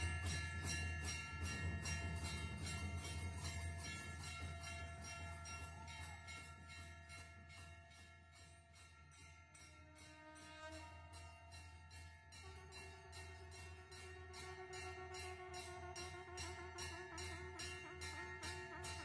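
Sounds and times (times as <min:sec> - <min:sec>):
hand bell ringing: 0:00.0 - 0:10.2, 0:10.8 - 0:19.0.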